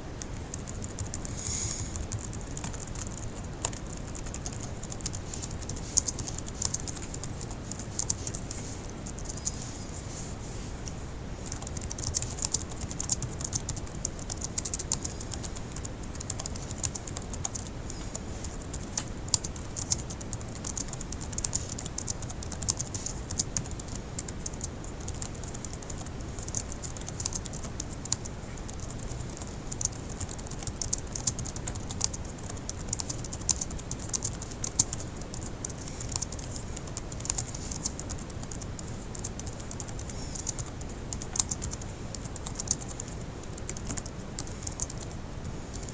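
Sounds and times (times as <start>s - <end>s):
fast typing on laptop keyboard: 0.2s - 10.3s, 11.4s - 45.9s.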